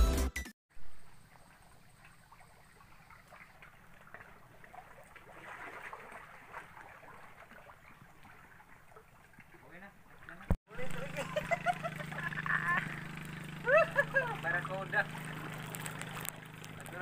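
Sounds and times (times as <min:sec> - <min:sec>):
small water splashes: 0:00.9 - 0:17.0
shallow seawater lapping: 0:01.1 - 0:17.0.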